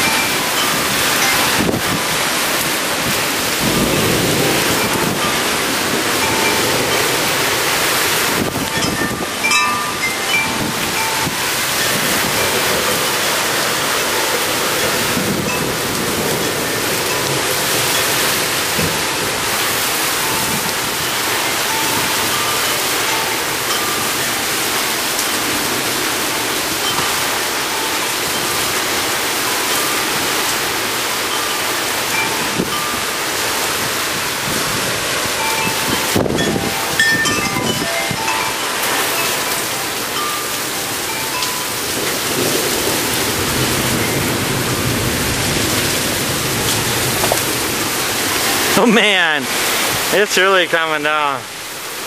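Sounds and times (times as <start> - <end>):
heavy rain pouring: 0.0 - 52.0
wind chimes ringing: 0.0 - 52.0.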